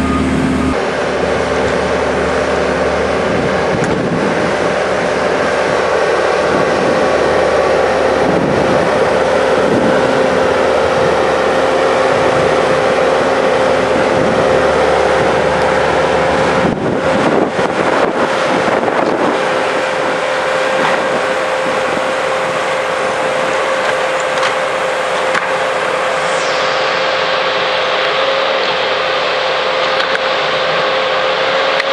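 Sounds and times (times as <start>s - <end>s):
wind on microphone: 0.0s - 29.4s
engine running with whine: 0.0s - 31.9s.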